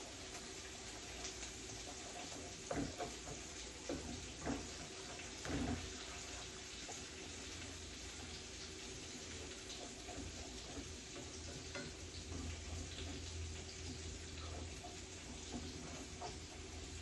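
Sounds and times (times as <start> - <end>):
eggs sizzling in frying pan: 0.0 - 17.0
spatula scraping pan: 0.7 - 17.0.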